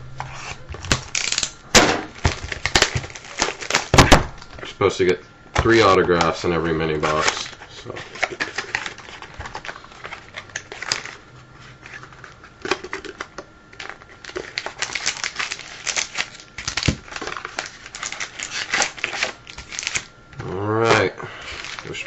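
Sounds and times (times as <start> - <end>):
foil wrappers crinkling: 0.3 - 4.7, 5.6 - 22.0.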